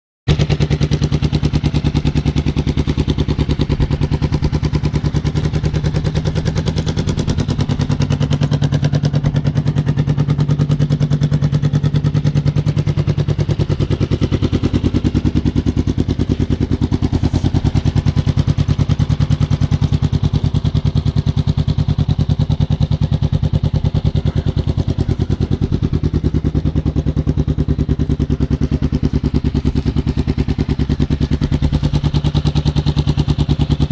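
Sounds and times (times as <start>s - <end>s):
motorcycle engine idling: 0.3s - 33.9s.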